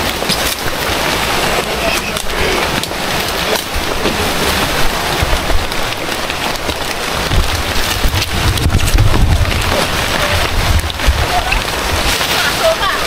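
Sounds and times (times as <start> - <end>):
low bumps: 0.0 - 13.0
river running over rocks: 0.0 - 13.0.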